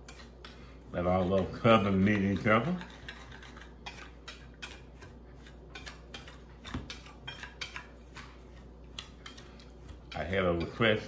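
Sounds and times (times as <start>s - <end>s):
metal utensil scraping steel bowl: 0.0s - 11.0s.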